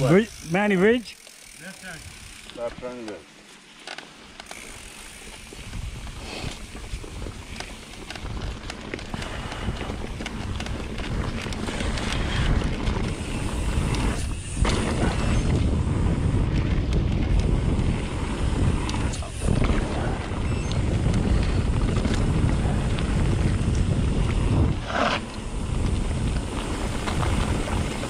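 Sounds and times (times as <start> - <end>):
bike clicks and rattles: 0.0 - 28.0
wind buffeting microphone: 5.4 - 28.0.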